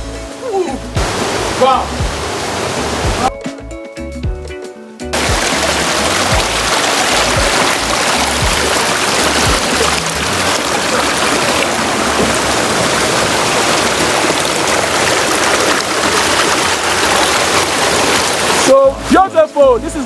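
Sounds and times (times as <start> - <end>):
waterfall rushing over rock: 0.4 - 3.3, 5.2 - 19.2.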